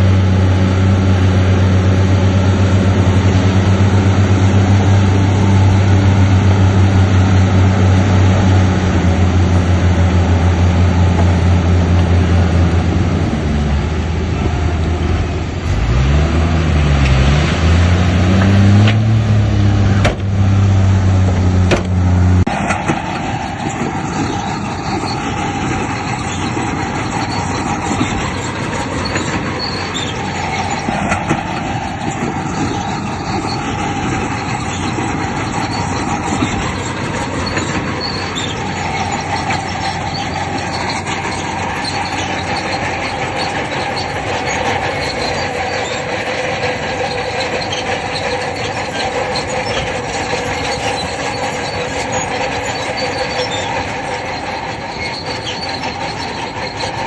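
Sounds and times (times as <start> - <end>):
bulldozer tracks squealing and clanking: 0.0 - 57.0
diesel engine: 0.0 - 57.0.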